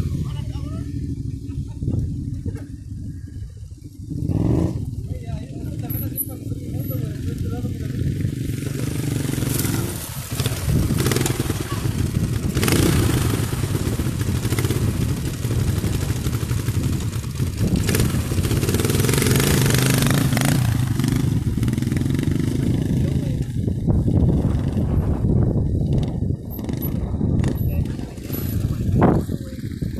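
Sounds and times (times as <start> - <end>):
motorcycles running at low speed: 0.0 - 29.9.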